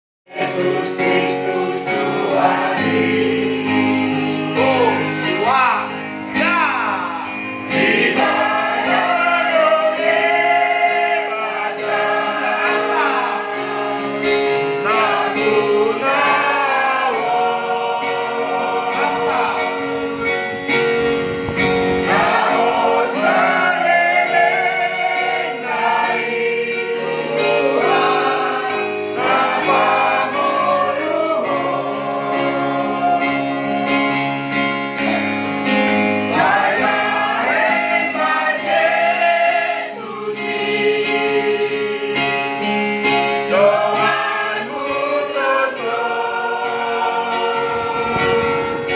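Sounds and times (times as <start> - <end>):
choir singing: 0.3 - 20.6, 21.8 - 48.9.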